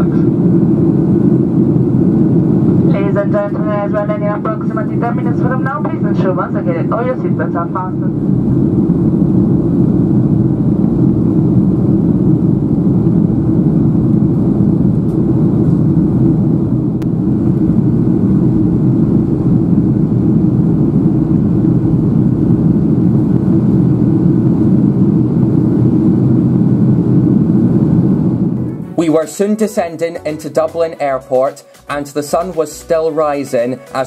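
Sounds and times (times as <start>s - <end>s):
airplane cabin jet engine rumble: 0.0s - 30.6s.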